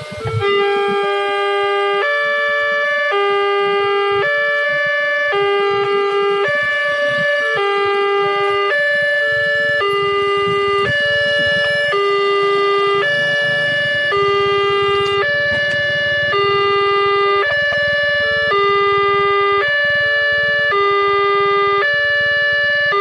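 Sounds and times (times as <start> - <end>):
level crossing alarm two tones: 0.0 - 23.0.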